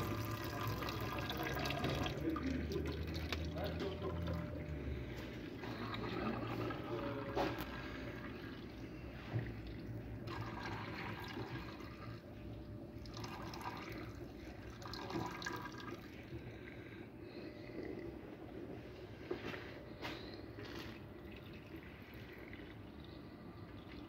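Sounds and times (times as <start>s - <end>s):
oil pouring into funnel: 0.0s - 24.0s.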